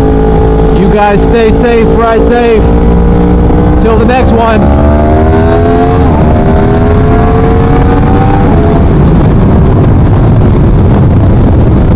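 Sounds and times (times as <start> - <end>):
motorcycle engine revving: 0.0 - 11.2
wind rumble on microphone: 0.0 - 11.9.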